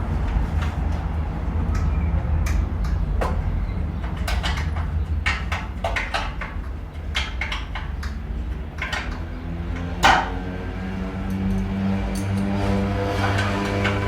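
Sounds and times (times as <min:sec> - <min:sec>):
sharp clicks and knocks: 0:01.7 - 0:14.0.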